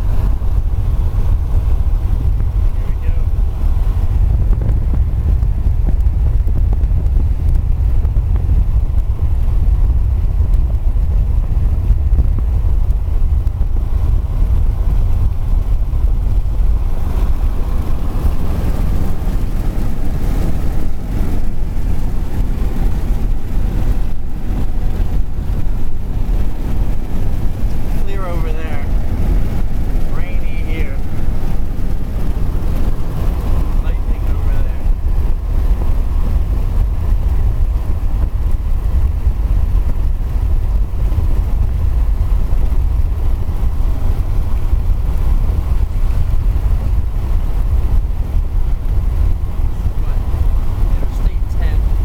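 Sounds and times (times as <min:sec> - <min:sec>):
car road and wind noise: 0:00.0 - 0:52.0.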